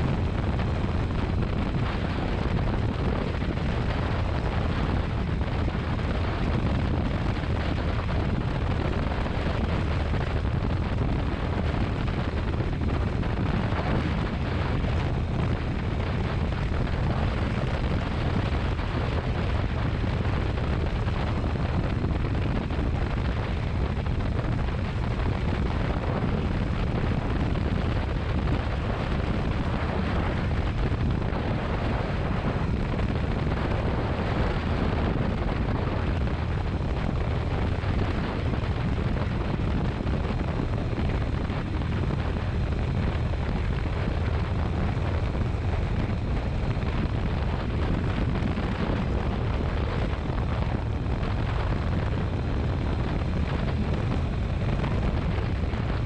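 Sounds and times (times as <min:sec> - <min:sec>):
motorcycle engine rumble: 0:00.0 - 0:56.0
wind rushing over microphone: 0:00.0 - 0:56.0.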